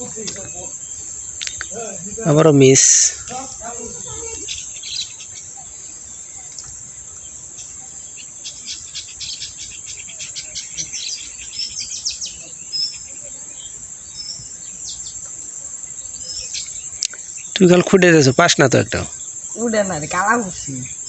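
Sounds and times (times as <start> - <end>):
birds chirping: 0.0 - 21.0
insect chorus drone: 0.0 - 21.0.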